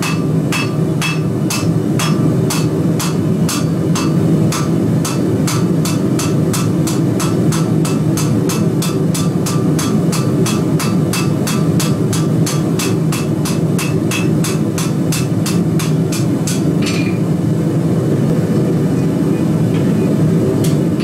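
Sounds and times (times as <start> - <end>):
hammer striking steel on anvil: 0.0 - 17.3, 20.6 - 21.0.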